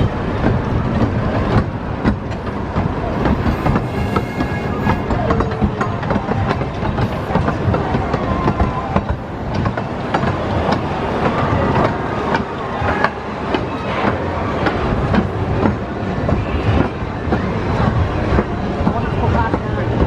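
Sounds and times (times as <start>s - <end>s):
miniature train rumbling: 0.0s - 20.0s
wheels clicking over rail joints: 0.0s - 20.0s.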